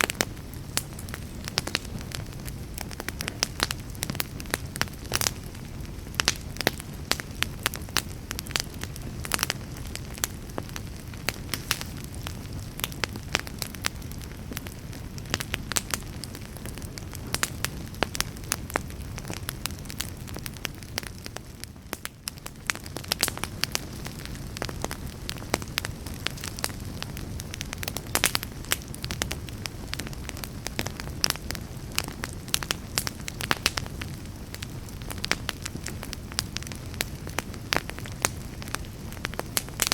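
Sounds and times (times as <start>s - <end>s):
logs crackling and popping: 0.0s - 39.9s
low rush of flame: 0.0s - 39.9s.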